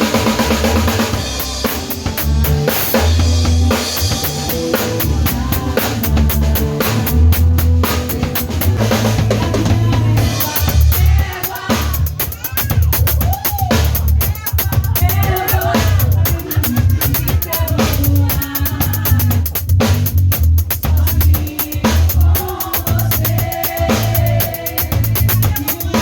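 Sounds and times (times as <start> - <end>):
band music with melody: 0.0 - 26.0
drum kit beat: 0.0 - 26.0.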